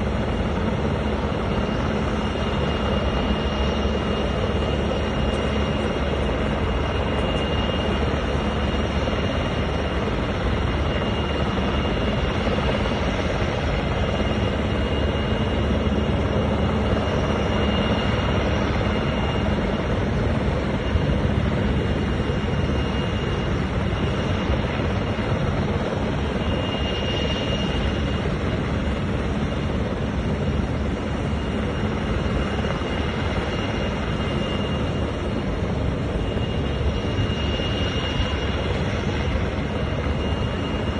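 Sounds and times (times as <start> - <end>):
helicopter hovering: 0.0 - 40.9.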